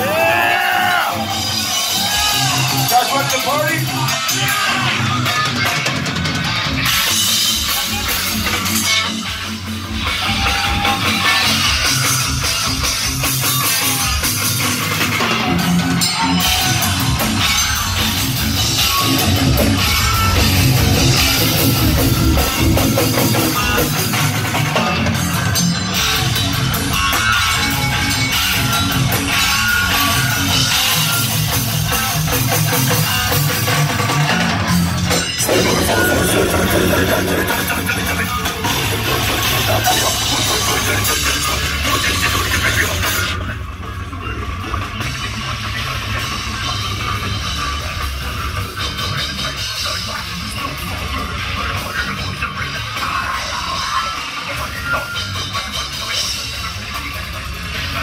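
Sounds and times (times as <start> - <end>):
live death metal band: 0.0 - 58.0.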